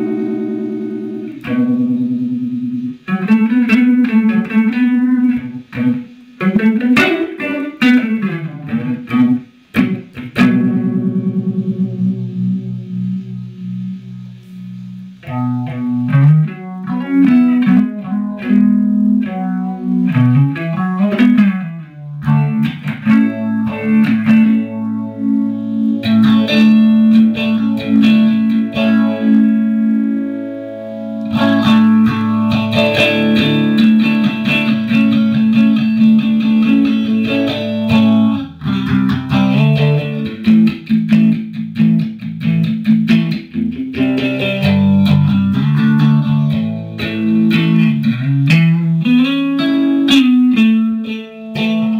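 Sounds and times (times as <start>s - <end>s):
electric guitar with phaser: 0.0s - 51.9s.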